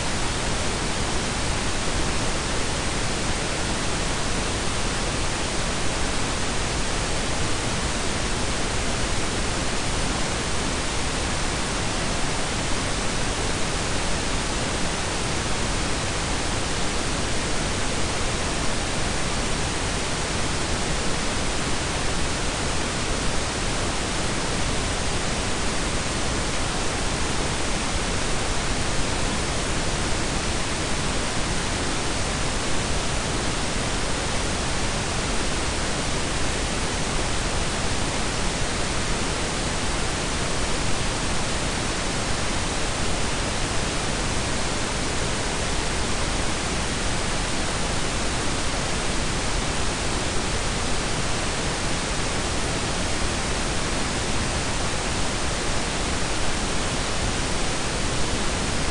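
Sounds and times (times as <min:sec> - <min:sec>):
pink and brown noise hiss: 0:00.0 - 0:58.9.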